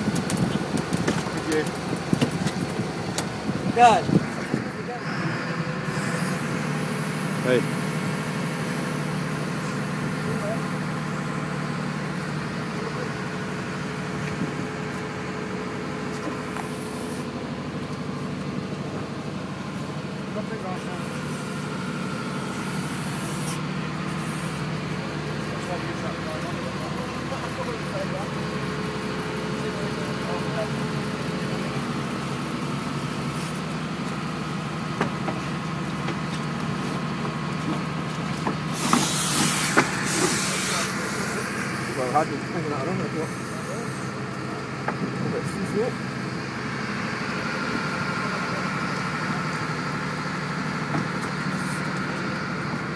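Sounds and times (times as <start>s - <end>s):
boat engine humming: 0.0s - 52.9s.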